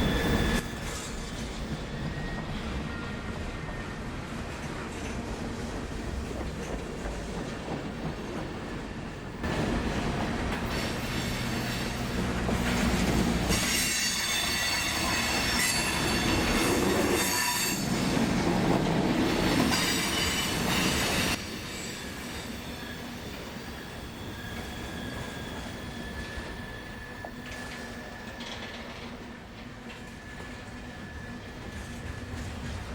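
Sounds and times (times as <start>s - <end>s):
train wheels squealing: 0.0s - 4.4s, 10.6s - 32.9s
freight train rumble: 0.0s - 32.9s.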